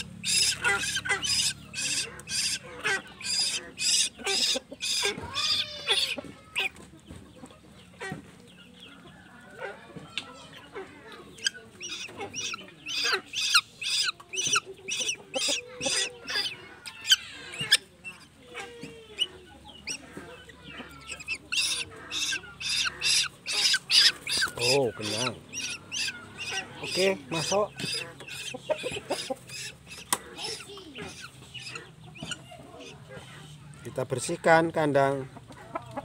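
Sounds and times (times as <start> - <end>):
bird chick begging calls: 0.0 - 6.8, 10.5 - 33.1.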